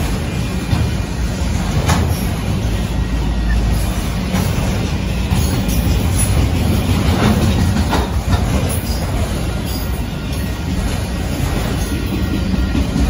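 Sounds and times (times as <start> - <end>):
freight train wheels rumbling: 0.0 - 13.0
wheels clacking over rail joints: 0.0 - 13.0.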